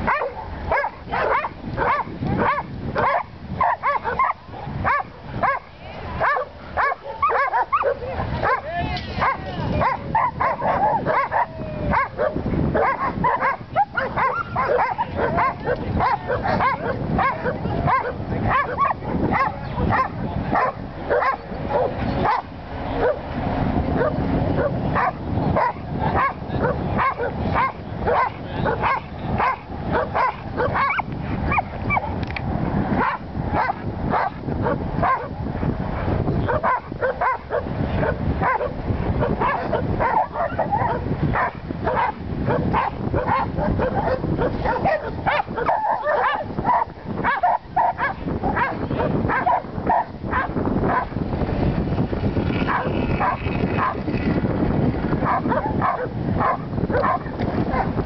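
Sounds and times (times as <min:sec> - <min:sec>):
dog barking rapidly: 0:00.0 - 0:23.2, 0:24.0 - 0:32.2, 0:33.0 - 0:35.4, 0:36.4 - 0:51.1, 0:52.6 - 0:54.0, 0:55.2 - 0:58.0.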